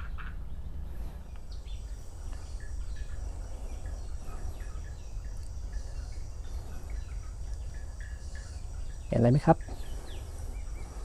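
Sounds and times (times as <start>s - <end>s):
low rumble: 0.0s - 9.1s
bird chirps: 0.0s - 11.0s
high-pitched insect drone: 1.1s - 11.0s.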